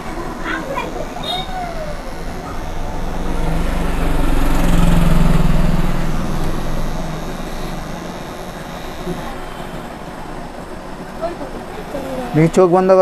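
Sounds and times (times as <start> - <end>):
motor humming: 0.0 - 12.6.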